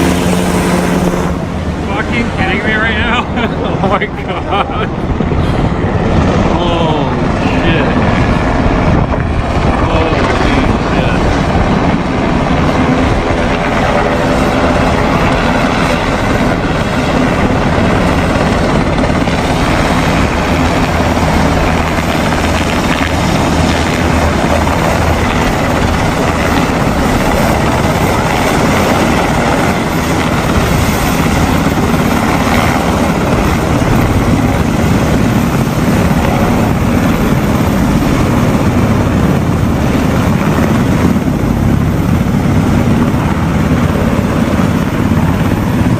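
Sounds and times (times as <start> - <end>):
helicopter rotor and engine: 0.0 - 45.9.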